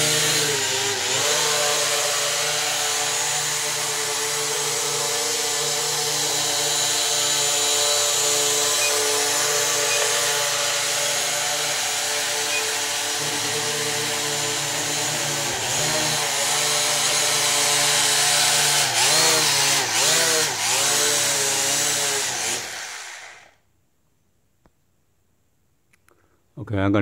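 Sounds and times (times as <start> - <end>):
drone motors and propellers whining: 0.0 - 23.6.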